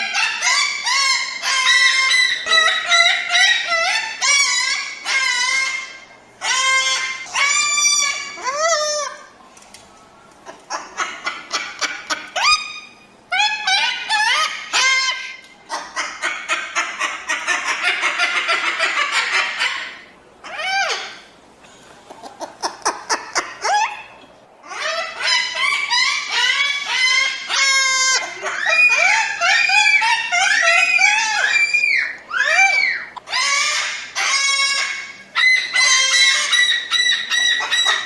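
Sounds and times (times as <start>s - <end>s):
cockatoo chattering and squawking: 0.0s - 9.3s, 10.4s - 21.3s, 22.0s - 38.0s.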